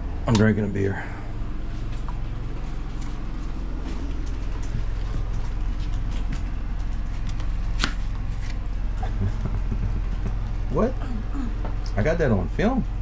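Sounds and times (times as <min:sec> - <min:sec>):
generator droning: 0:00.0 - 0:13.0.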